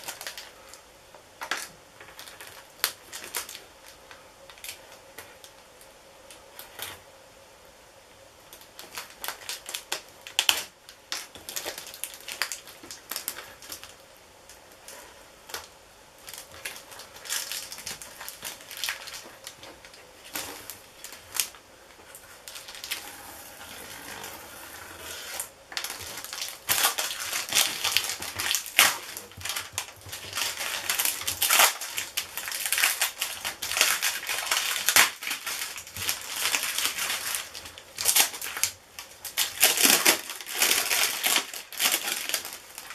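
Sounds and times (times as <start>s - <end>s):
plastic film crinkling: 0.0s - 0.8s, 1.4s - 5.5s, 8.5s - 42.9s.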